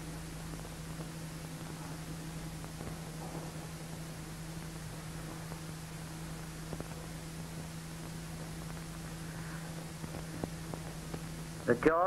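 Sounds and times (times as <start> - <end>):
film soundtrack hiss: 0.0 - 12.0
low hum: 0.0 - 12.0.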